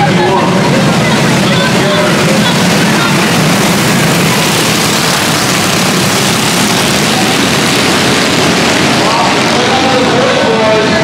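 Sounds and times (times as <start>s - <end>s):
vehicle rushing noise: 0.0s - 11.0s.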